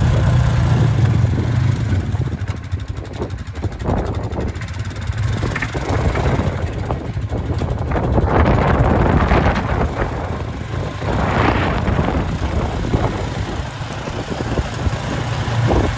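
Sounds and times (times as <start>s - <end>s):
atv engine running: 0.0s - 15.9s.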